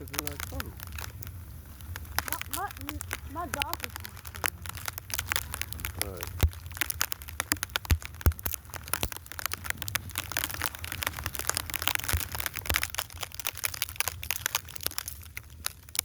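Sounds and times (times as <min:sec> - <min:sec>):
snow crunching: 0:00.0 - 0:16.0.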